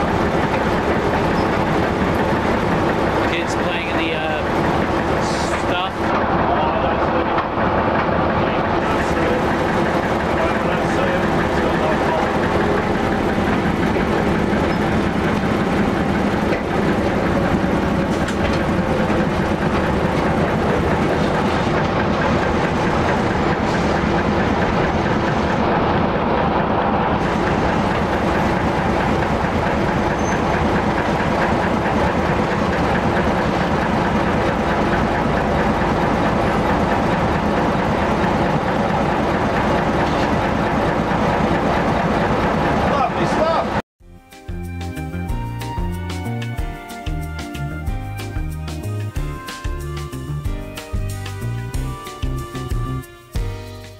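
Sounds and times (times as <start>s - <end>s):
rumble of train wheels: 0.0s - 43.8s
diesel engine drone: 0.0s - 53.9s.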